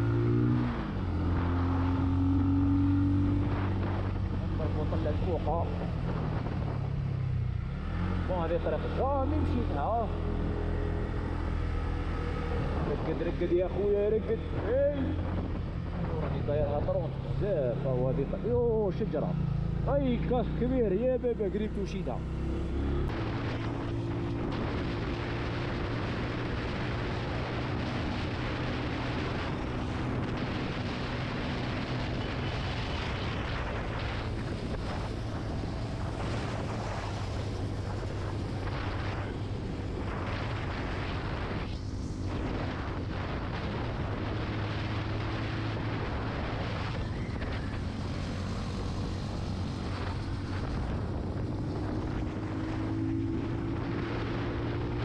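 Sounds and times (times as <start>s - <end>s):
wind rushing over microphone: 0.0s - 19.9s, 20.8s - 55.0s
motorcycle engine cruising: 0.0s - 55.0s.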